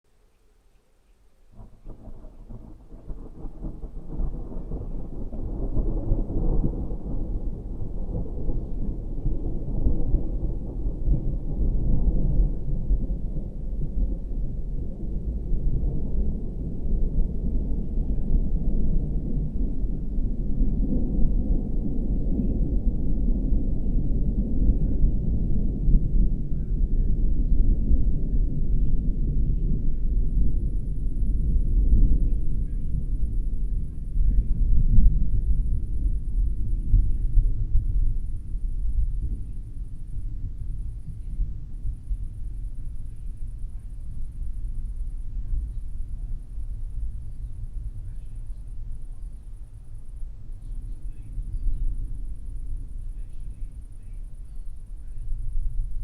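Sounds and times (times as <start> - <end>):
rolling thunder: 1.4 - 56.0.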